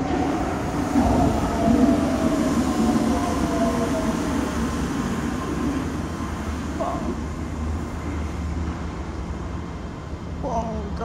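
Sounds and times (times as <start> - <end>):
train rumble with motor whine: 0.0 - 11.0.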